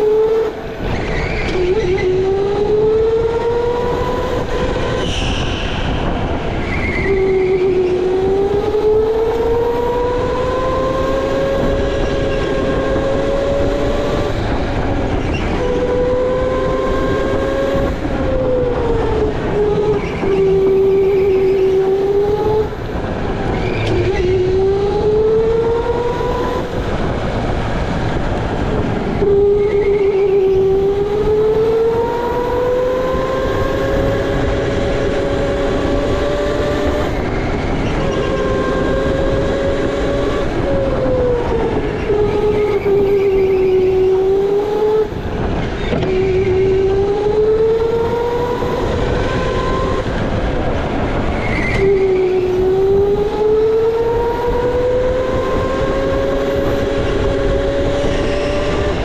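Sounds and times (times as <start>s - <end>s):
rumble of kart tyres: 0.0s - 59.0s.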